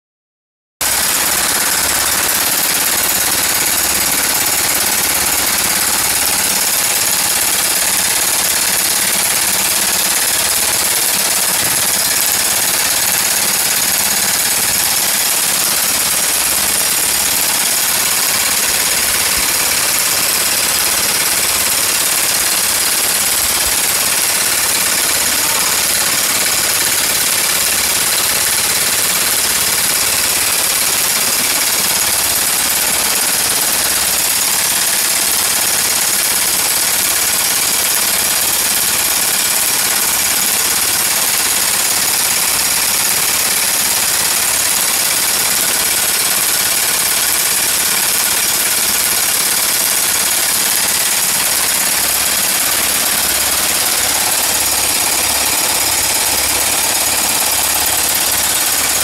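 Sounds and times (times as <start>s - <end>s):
machine hammering rapidly: 0.8s - 59.0s.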